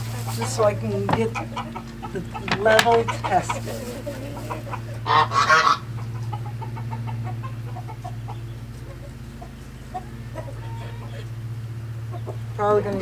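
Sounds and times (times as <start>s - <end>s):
fowl raspy honking call: 0.0s - 13.0s
steady low hum: 0.0s - 13.0s.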